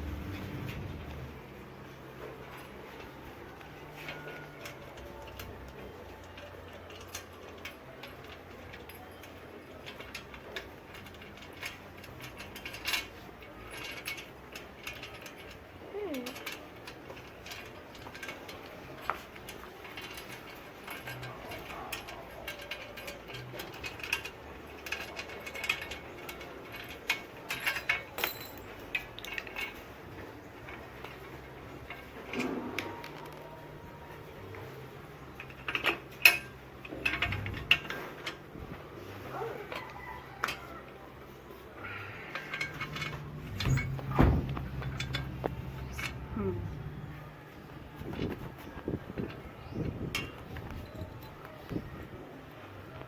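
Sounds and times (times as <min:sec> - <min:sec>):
parts clicking and rattling: 0:00.0 - 0:53.0.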